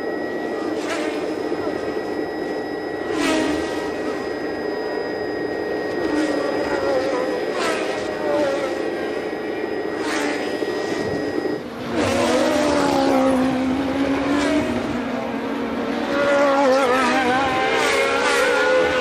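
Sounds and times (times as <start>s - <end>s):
race car engines shifting gears: 0.4s - 4.3s, 5.7s - 19.0s.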